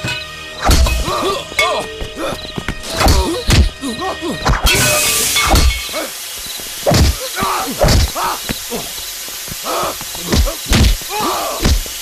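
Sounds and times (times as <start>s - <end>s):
men grunting and crying out: 0.7s - 6.2s, 6.9s - 12.0s.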